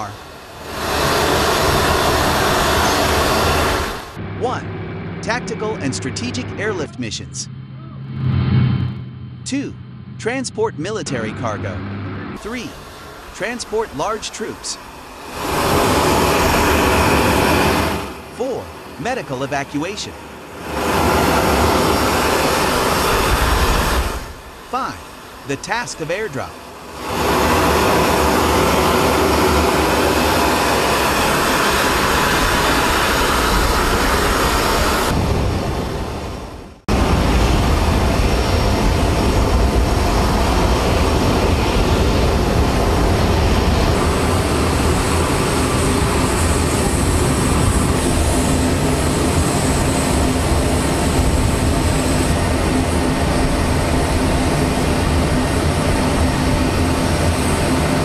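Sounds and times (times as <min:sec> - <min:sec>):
aircraft turbine rumble: 0:00.0 - 0:58.0
high engine whine: 0:00.0 - 0:58.0.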